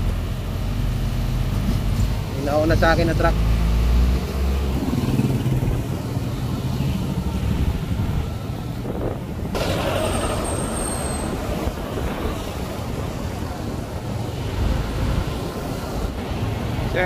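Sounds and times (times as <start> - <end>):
engines rumbling in traffic: 0.0 - 17.0
road noise: 0.0 - 17.0.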